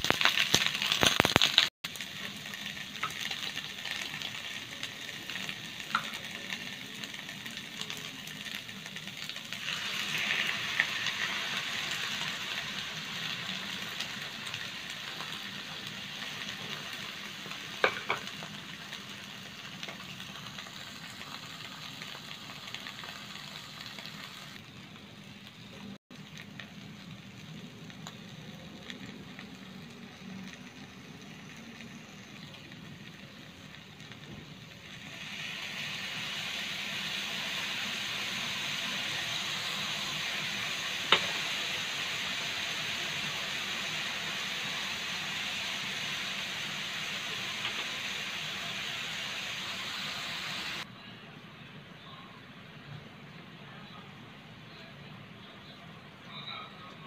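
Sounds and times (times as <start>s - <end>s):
sauce hissing in hot pan: 0.0s - 24.6s, 27.2s - 50.9s
food sizzling in a wok: 0.0s - 50.9s.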